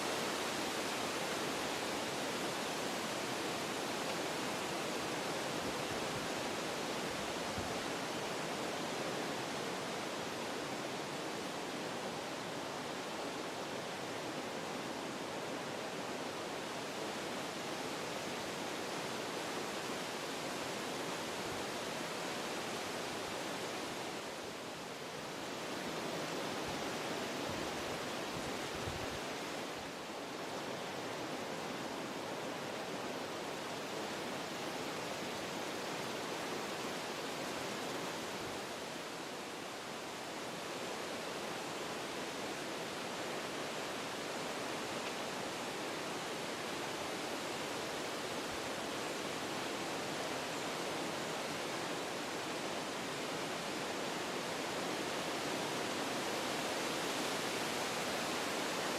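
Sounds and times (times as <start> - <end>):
wind blowing through trees: 0.0 - 58.9.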